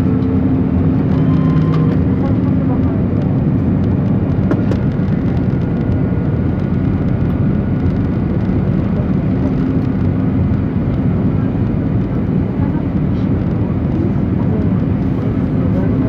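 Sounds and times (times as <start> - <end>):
loud rumble of engines and air: 0.0 - 16.0.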